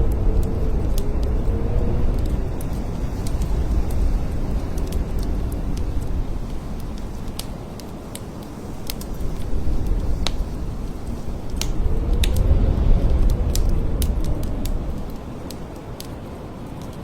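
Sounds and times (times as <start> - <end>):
blizzard wind gusting: 0.0 - 17.0
whistling wind howl: 0.0 - 17.0.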